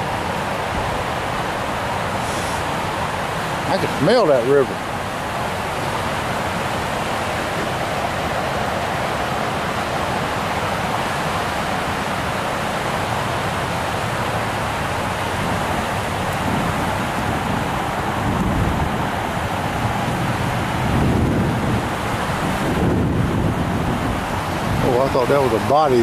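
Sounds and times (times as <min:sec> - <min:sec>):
water pouring over spillway: 0:00.0 - 0:26.0
wind buffeting microphone: 0:00.0 - 0:26.0.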